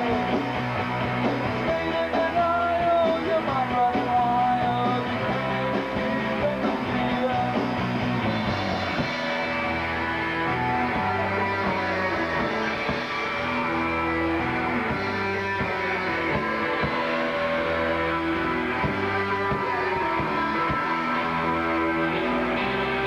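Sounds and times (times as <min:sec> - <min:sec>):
electric guitar: 0:00.0 - 0:23.0
live rock band playing: 0:00.0 - 0:23.0.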